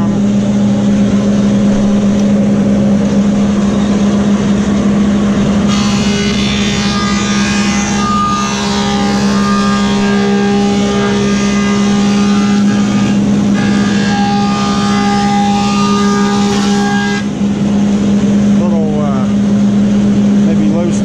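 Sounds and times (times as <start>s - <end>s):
planer humming with whine: 0.0s - 21.0s.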